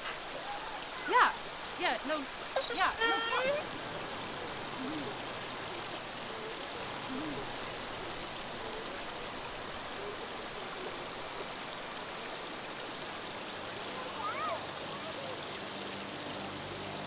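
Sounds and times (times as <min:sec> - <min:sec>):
river white water rushing: 0:00.0 - 0:17.0.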